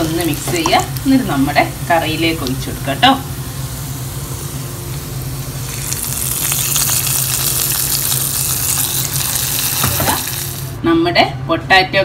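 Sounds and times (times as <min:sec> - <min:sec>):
hot oil sizzling: 0:00.0 - 0:10.8.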